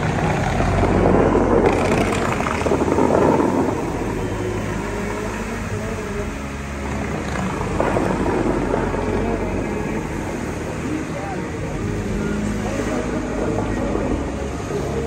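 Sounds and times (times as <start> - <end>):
fountain jets hissing and splashing: 0.0 - 15.0
low motor hum: 0.0 - 15.0.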